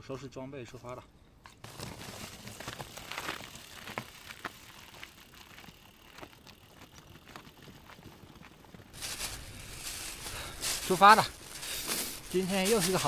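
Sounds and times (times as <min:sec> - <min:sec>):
gear crinkling and rustling: 0:01.5 - 0:13.0.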